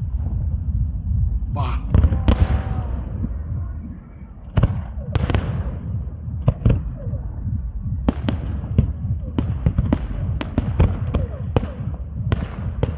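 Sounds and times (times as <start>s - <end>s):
low rumble of fireworks: 0.0s - 12.9s.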